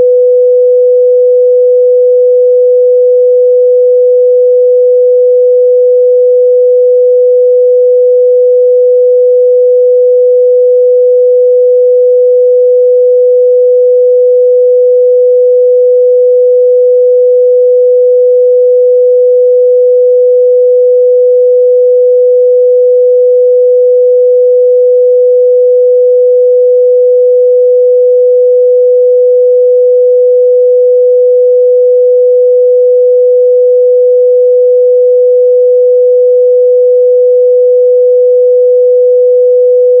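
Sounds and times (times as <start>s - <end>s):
sine-wave test tone: 0.0s - 40.0s.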